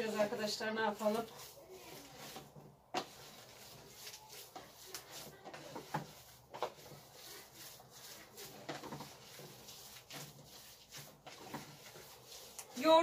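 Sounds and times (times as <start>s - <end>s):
hands kneading minced meat: 0.0s - 13.0s.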